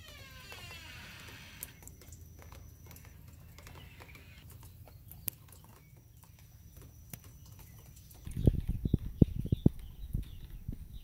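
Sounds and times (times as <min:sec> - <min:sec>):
rain dripping on wooden deck: 0:00.0 - 0:11.0.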